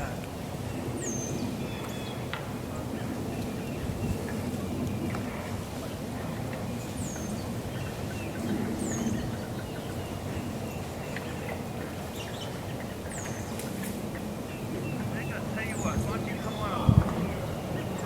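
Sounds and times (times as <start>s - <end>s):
low background noise: 0.0s - 18.0s.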